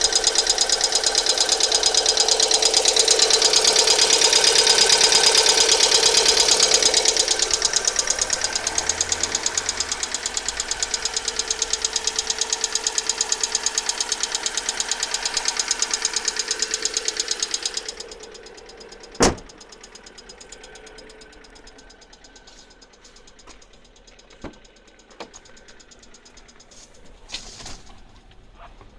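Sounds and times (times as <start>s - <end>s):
engine valvetrain knocking: 0.0s - 27.3s.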